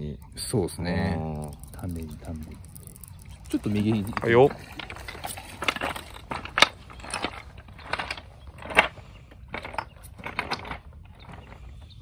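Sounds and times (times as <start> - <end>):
footsteps on loose stones: 1.4 - 11.9.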